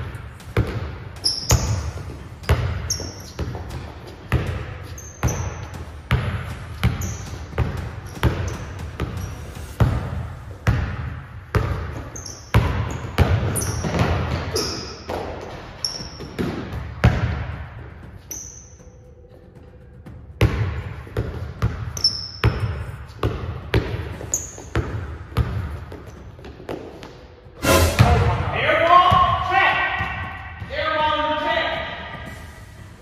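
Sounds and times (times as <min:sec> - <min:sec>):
basketball bouncing on court: 0:00.0 - 0:18.8, 0:20.0 - 0:27.1, 0:27.9 - 0:32.3
sneakers squeaking on floor: 0:00.0 - 0:32.6.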